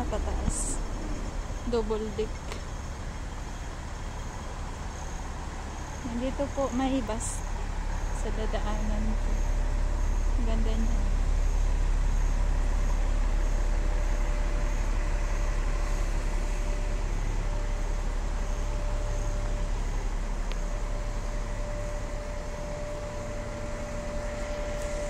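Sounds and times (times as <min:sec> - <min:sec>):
bus engine rumble: 0:00.0 - 0:25.0.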